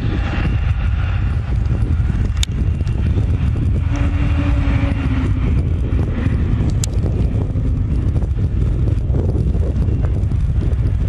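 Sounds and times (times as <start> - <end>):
distant jet engines rumbling: 0.0 - 11.0
wind buffeting microphone: 0.0 - 11.0.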